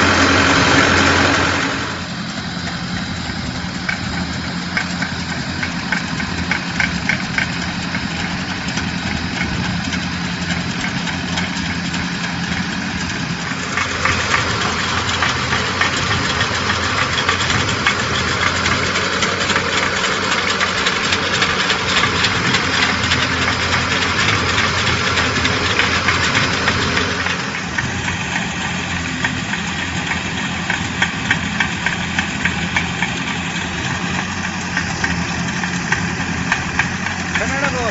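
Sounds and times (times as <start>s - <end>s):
boat engine clattering: 0.0s - 37.9s.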